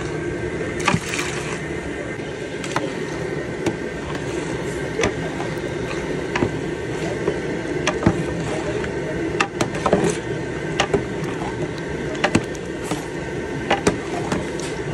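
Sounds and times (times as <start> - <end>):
rumbling background: 0.0 - 14.9.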